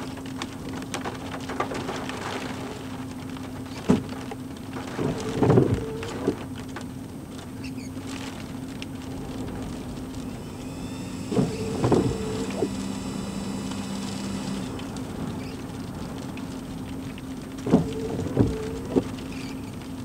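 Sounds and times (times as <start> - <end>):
vehicle interior hum: 0.0 - 20.0.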